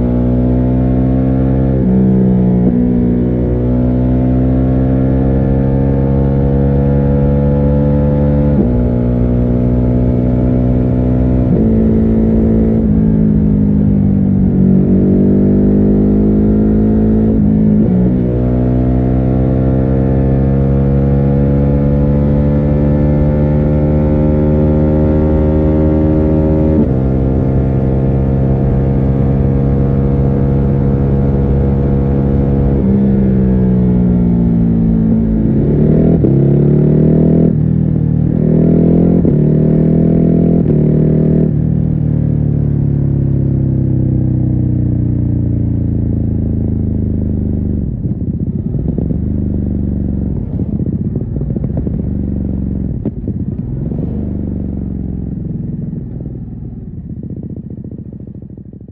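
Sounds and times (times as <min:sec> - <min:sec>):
muffled motorcycle engine revving: 0:00.0 - 0:58.9.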